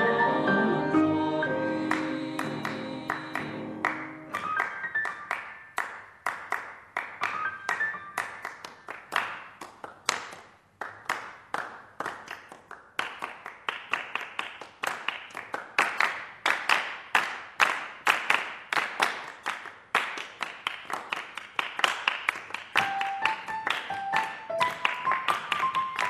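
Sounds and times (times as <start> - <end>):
rhythmic hand clapping: 1.8 - 26.0.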